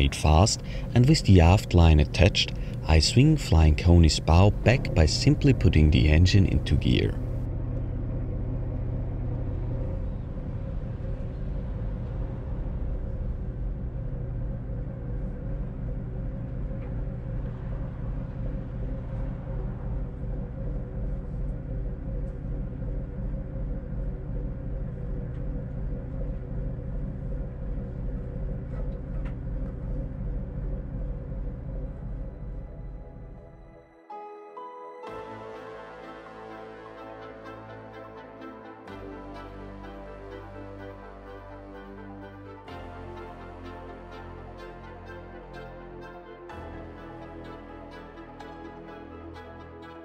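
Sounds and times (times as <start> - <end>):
ship engine throbbing: 0.0 - 34.0, 35.1 - 50.0.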